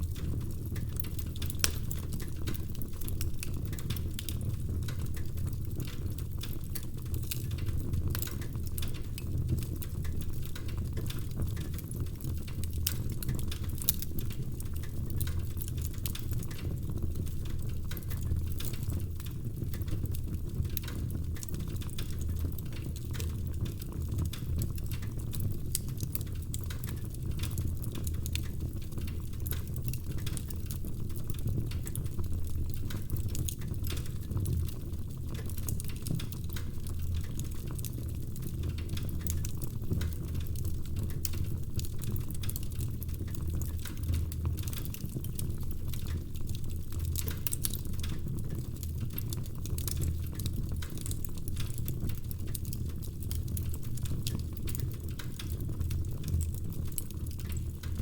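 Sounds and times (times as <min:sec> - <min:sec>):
burning logs crackling: 0:00.0 - 0:58.0
rumble of fire flames: 0:00.0 - 0:58.0.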